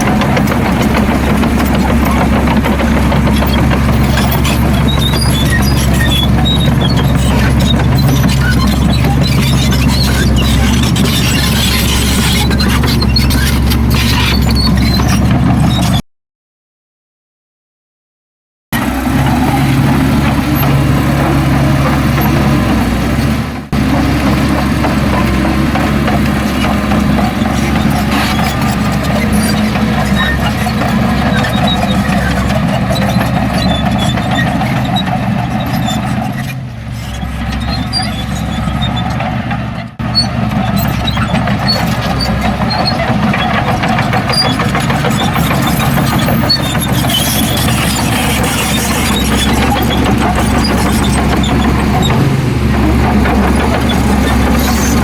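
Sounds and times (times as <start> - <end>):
heavy diesel machinery engines: 0.0 - 16.0, 18.8 - 55.0.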